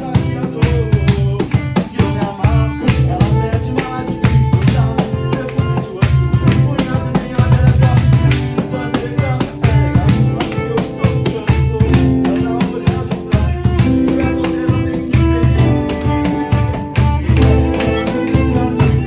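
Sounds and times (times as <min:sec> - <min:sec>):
drum kit beat: 0:00.0 - 0:19.0
guitar: 0:00.0 - 0:19.0
held notes: 0:00.0 - 0:19.0.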